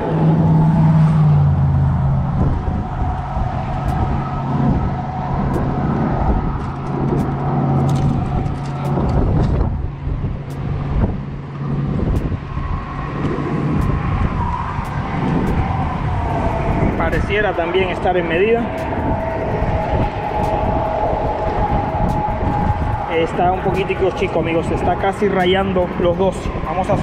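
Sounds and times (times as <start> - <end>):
engine hum: 0.0 - 27.0
traffic rumble: 0.0 - 27.0.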